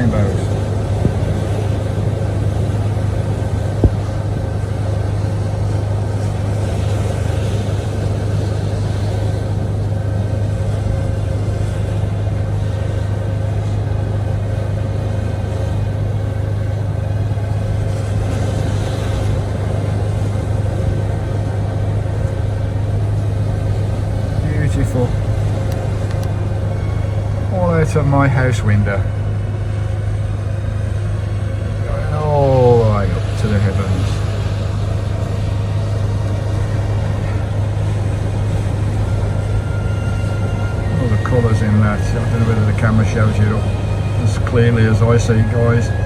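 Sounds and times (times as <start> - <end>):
generator humming: 0.0 - 46.0.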